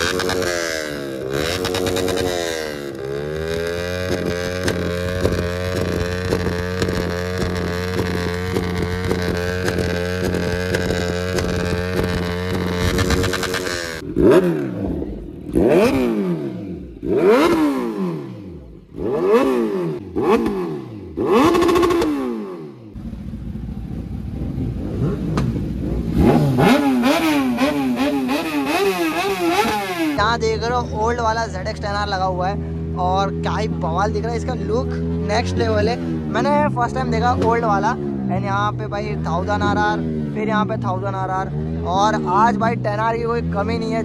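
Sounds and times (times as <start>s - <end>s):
motorcycle engine idling and revving: 0.0s - 44.0s.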